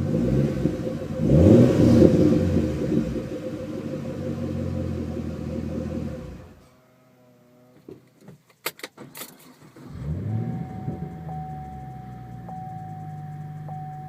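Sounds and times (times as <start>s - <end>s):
car engine idling and revving: 0.0s - 6.8s, 9.0s - 14.0s.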